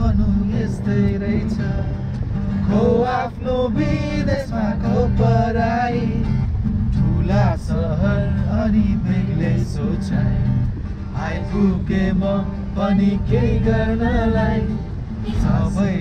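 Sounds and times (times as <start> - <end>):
acoustic guitar: 0.0 - 16.0
car road and engine noise: 0.0 - 16.0
men singing: 0.0 - 16.0.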